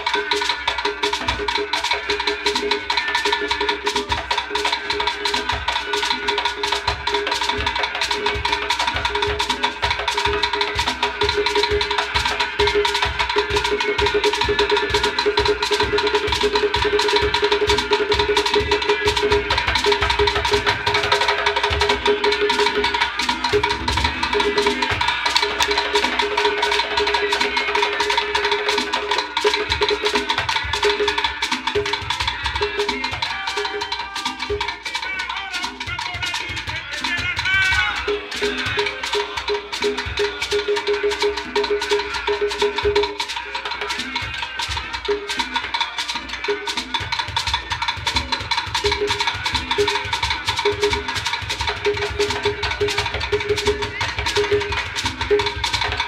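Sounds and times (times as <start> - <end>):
hand drums playing: 0.0 - 56.0.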